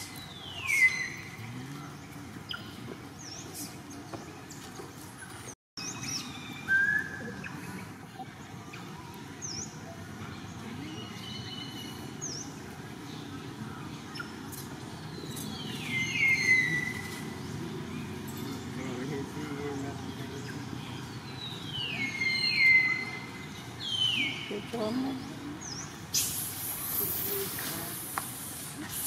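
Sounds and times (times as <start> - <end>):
birds chirping: 0.0 - 29.0
low outdoor background: 0.0 - 29.0.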